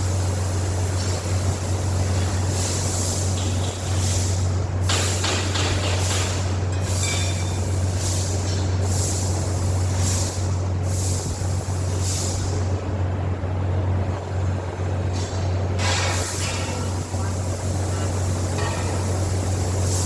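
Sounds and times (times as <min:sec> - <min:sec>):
hissing bursts: 0:00.0 - 0:12.6, 0:15.2 - 0:20.0.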